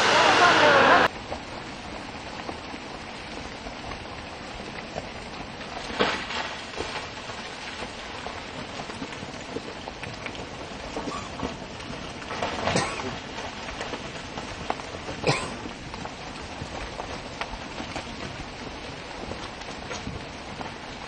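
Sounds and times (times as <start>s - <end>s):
rock and gravel pouring down: 0.0s - 21.0s.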